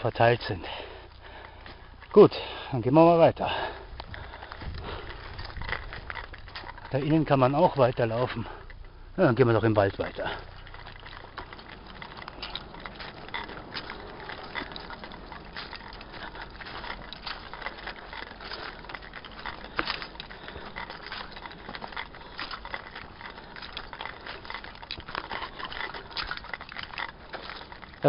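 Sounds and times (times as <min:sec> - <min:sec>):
small metal clinks and rattles: 0:00.0 - 0:28.0.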